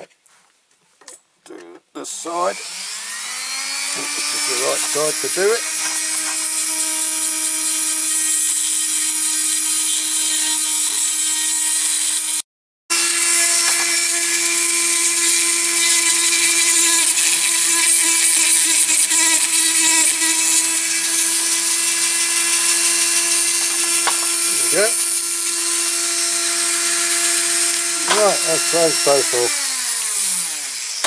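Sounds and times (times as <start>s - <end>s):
rotary tool grinding metal: 2.1s - 31.0s.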